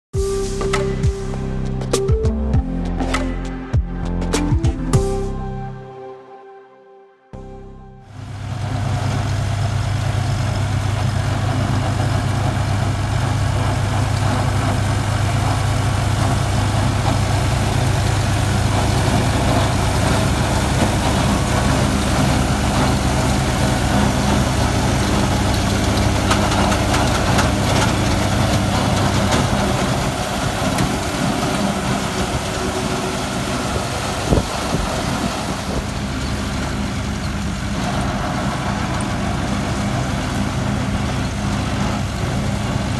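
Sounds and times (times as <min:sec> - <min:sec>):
diesel tractor engine drone: 0:00.2 - 0:05.9, 0:07.4 - 0:42.9.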